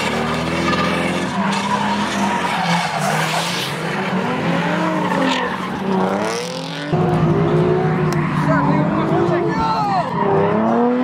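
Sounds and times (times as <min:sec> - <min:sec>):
engine at high revs: 0:00.0 - 0:09.6, 0:10.2 - 0:11.0
tyres squealing and skidding: 0:00.0 - 0:11.0.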